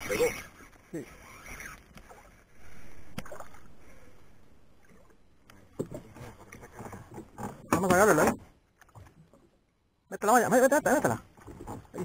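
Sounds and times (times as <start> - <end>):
water splashing and sloshing: 0.0 - 9.8, 10.8 - 12.0.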